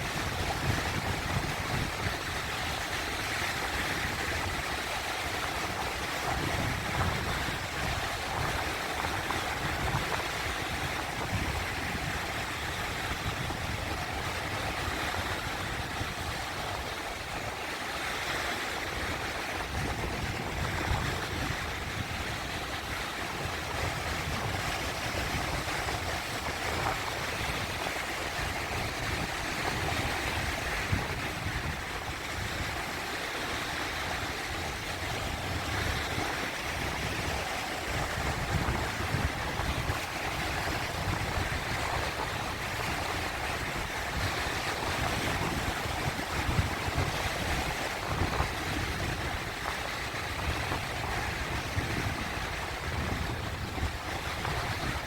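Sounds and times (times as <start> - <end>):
sea waves washing over rocks: 0.0 - 55.0
wind noise on microphone: 0.0 - 55.0.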